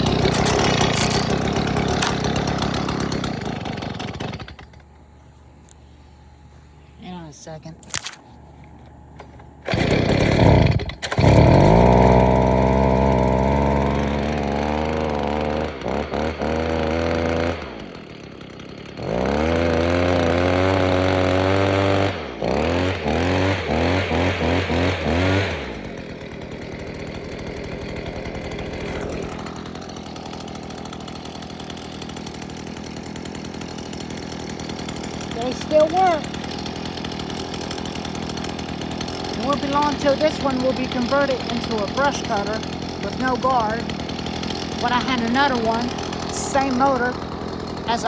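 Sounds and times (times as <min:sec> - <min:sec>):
string trimmer engine revving: 0:00.0 - 0:04.8, 0:09.2 - 0:48.0.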